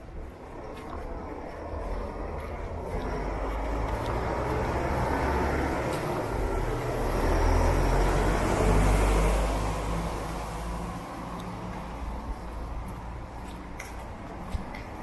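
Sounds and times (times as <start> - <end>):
truck engine rumble: 0.0 - 15.0
tyre noise on wet street: 0.0 - 15.0.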